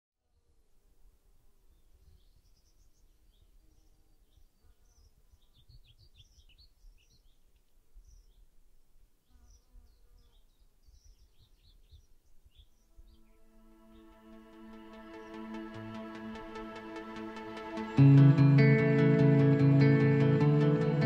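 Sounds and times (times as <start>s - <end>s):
birds chirping: 1.7s - 8.6s, 9.2s - 21.0s.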